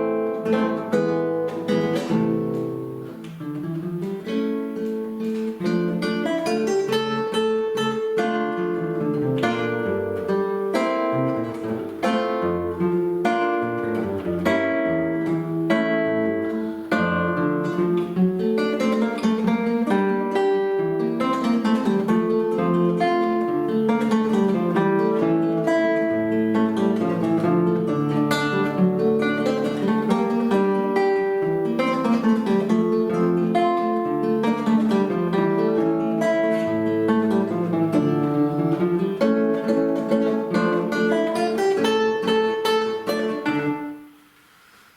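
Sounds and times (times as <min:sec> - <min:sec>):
acoustic guitar duet: 0:00.0 - 0:44.9.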